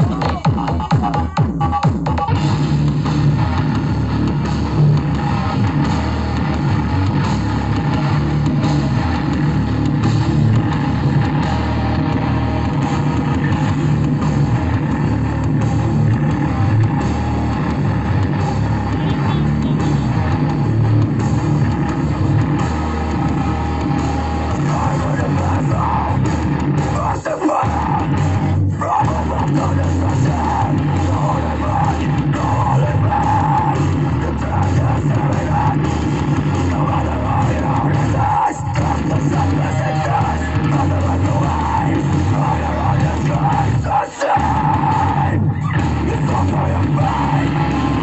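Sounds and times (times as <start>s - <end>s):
loud music with heavy bass: 0.0s - 48.0s.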